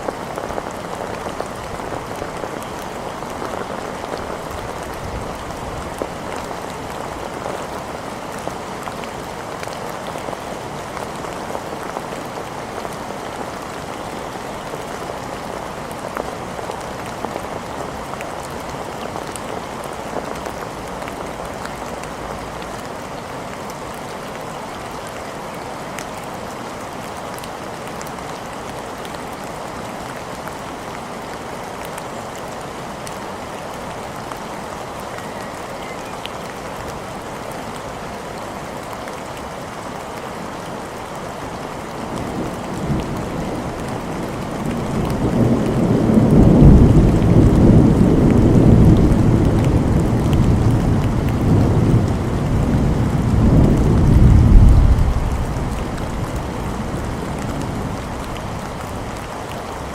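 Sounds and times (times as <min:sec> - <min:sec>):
rain on hard surfaces: 0:00.0 - 0:59.9.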